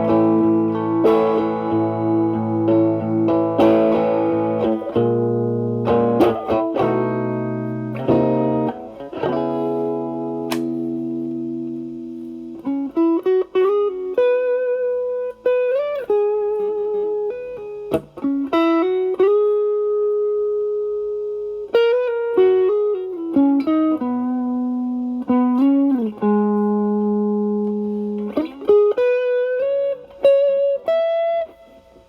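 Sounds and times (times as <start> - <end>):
electric guitar lead with bends: 0.0 - 32.0
overdriven electric guitar chords: 0.0 - 32.0.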